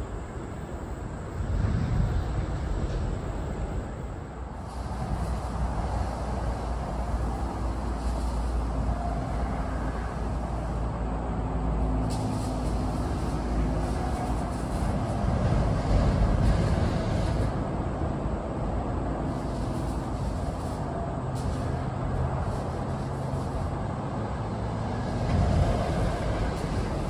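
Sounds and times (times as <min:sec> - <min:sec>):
low engine hum: 0:00.0 - 0:27.0
rumble of vehicles: 0:00.0 - 0:27.0.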